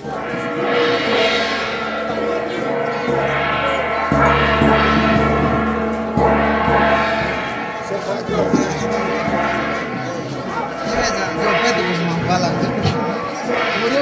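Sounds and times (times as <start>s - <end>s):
metal gong struck with stick: 0.0s - 14.0s.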